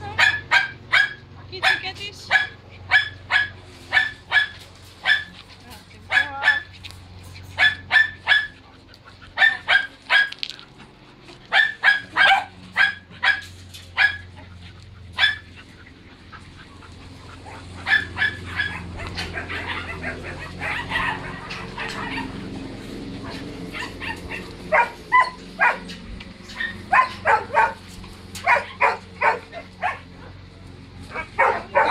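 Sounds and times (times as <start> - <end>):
dogs barking: 0.0 - 31.9.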